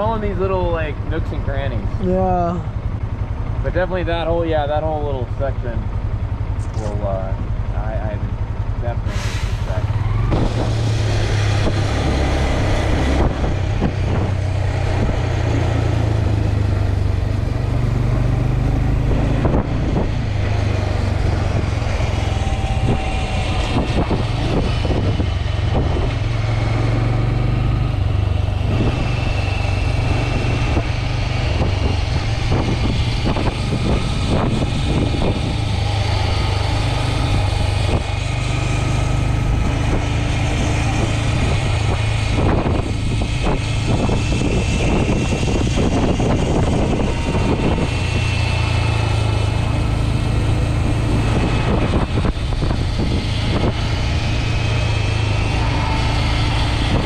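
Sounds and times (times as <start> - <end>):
motorcycle road noise: 0.0 - 57.0
wind noise on microphone: 9.1 - 57.0.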